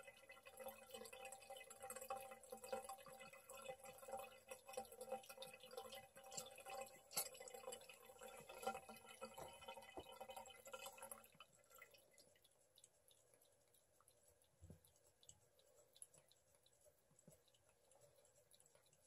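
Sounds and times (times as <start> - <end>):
cat lapping water: 0.0 - 19.0
tap water dripping into sink: 0.0 - 19.0.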